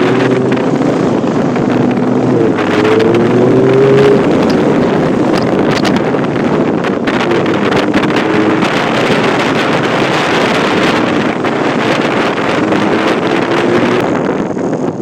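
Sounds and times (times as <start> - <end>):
car engine running: 0.0 - 15.0
wind buffeting microphone: 0.0 - 15.0.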